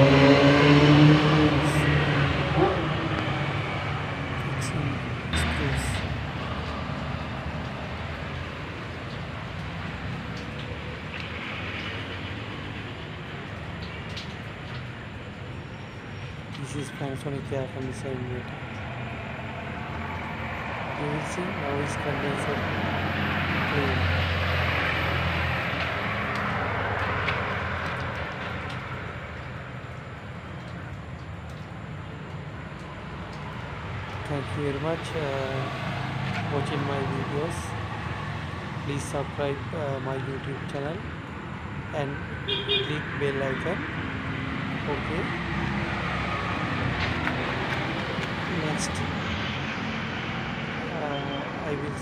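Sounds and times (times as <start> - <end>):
low rumbling noise with hiss: 1.2 - 49.5, 50.1 - 52.0.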